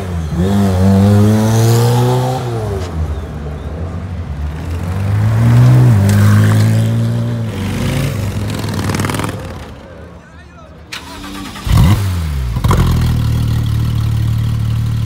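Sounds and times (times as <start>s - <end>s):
cars pulling away: 0.0s - 10.1s, 10.9s - 15.0s.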